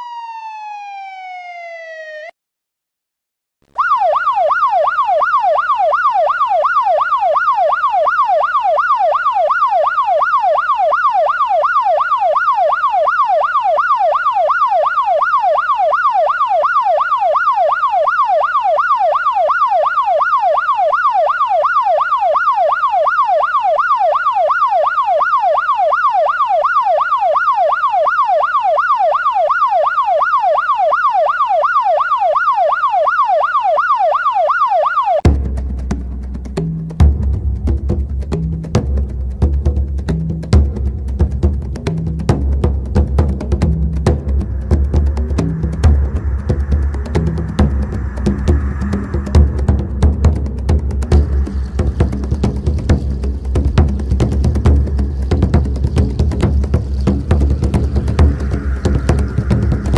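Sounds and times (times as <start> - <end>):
electronic siren sweeping: 0.0 - 2.4, 3.8 - 35.3, 41.8 - 59.9.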